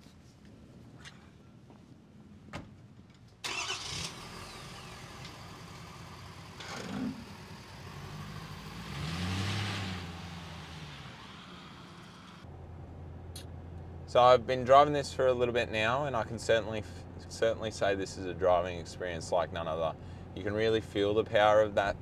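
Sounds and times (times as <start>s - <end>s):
diesel engine starting and idling: 3.4s - 22.0s.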